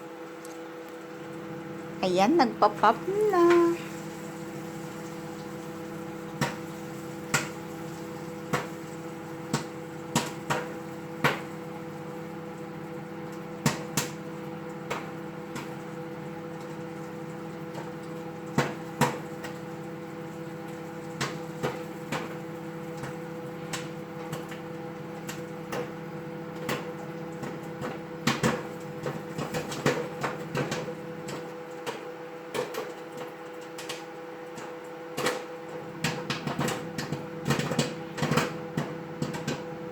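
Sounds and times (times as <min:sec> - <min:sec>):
microwave oven hum: 0:00.0 - 0:39.9
popcorn popping: 0:00.4 - 0:39.9.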